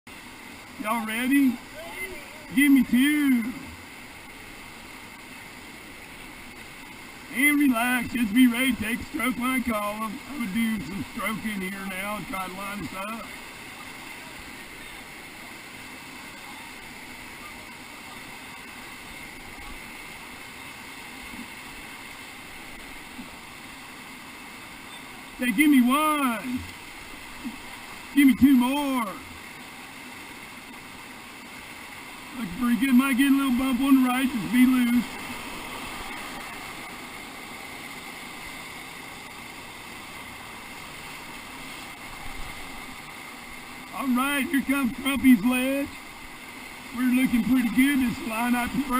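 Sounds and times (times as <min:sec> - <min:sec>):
whitewater river rushing: 0:00.1 - 0:48.9.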